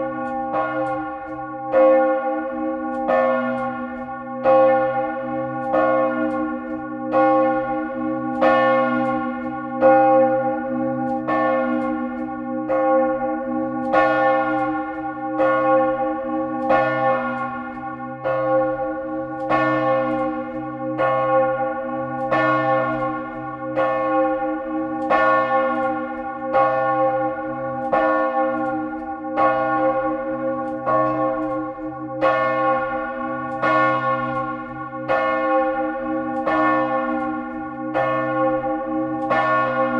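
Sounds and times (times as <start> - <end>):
large church bell pealing: 0.0 - 39.9.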